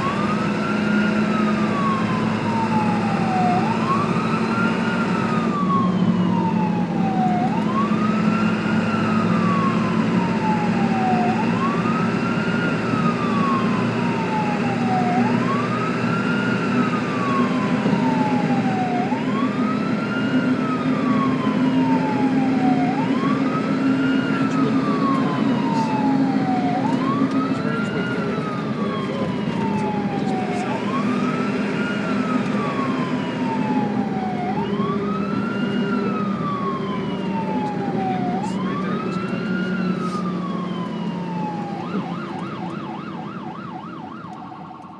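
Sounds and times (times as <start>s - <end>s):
ambulance siren wailing: 0.0s - 44.9s.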